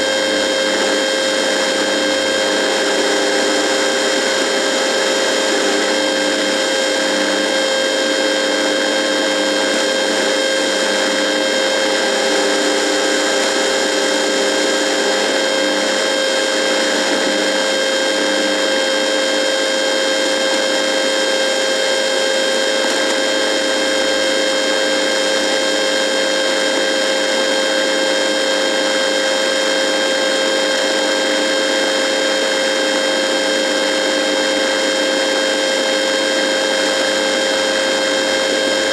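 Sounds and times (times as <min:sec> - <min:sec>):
radio electrical buzz: 0:00.0 - 0:38.9.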